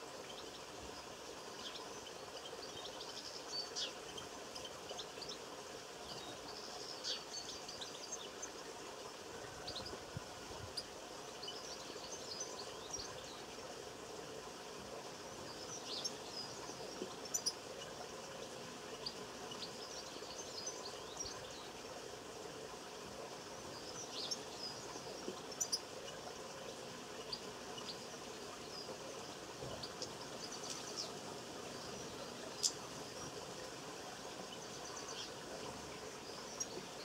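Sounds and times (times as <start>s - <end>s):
songbirds chirping: 0.0s - 37.0s
steady background hiss: 0.0s - 37.0s.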